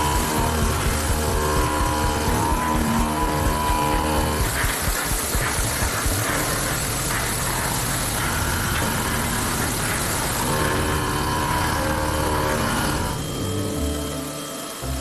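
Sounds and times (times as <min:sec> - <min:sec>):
background music: 0:00.0 - 0:09.6, 0:10.4 - 0:15.0
machine running loudly: 0:00.0 - 0:15.0.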